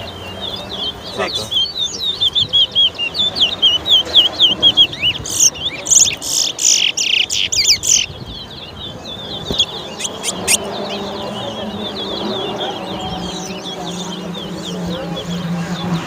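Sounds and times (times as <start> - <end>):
bird twittering: 0.0 - 15.9
finch singing whistled notes: 0.0 - 16.0.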